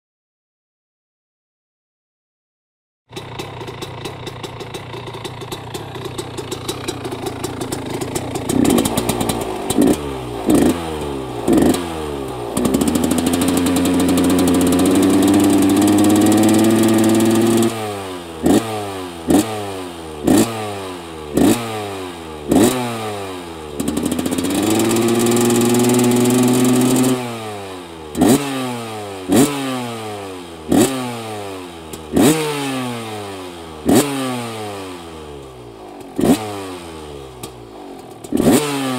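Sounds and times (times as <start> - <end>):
two-stroke engine revving: 3.1 - 38.9.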